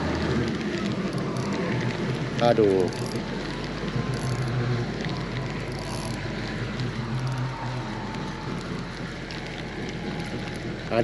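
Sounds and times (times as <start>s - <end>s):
fishing reel whirring: 0.0s - 11.0s.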